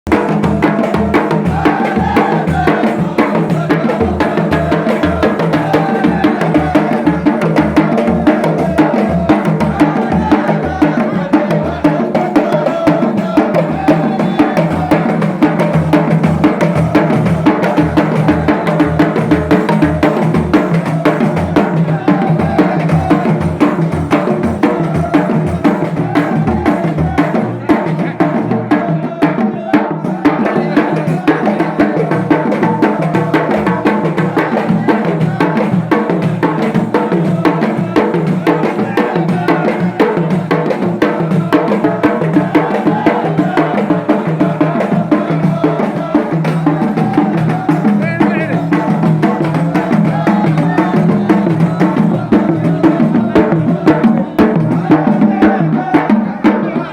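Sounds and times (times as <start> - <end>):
music with steady drum beat: 0.1 - 56.9.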